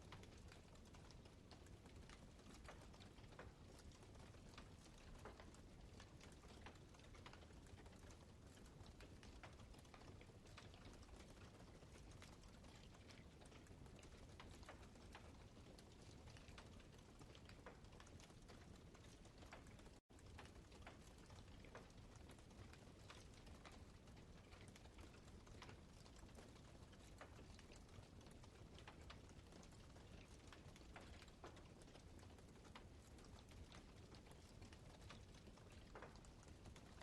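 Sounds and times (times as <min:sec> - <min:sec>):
low steady fire rumble: 0:00.0 - 0:37.0
campfire crackling and popping: 0:00.1 - 0:37.0.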